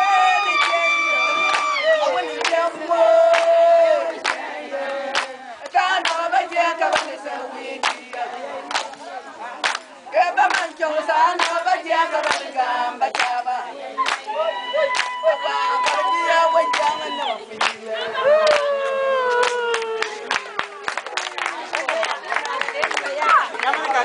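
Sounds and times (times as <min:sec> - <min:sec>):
women singing a chant: 0:00.0 - 0:20.7
rhythmic handclapping: 0:00.1 - 0:24.0.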